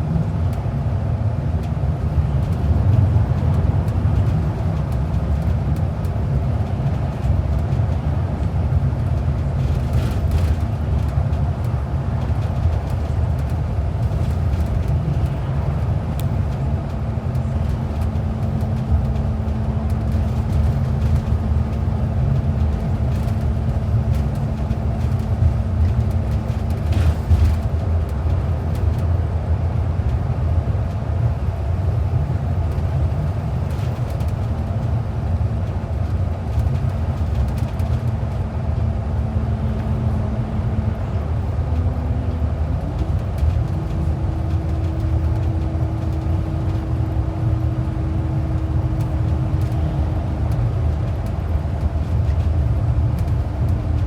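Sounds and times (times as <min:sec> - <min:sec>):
bus engine and tyres rumbling: 0:00.0 - 0:54.0.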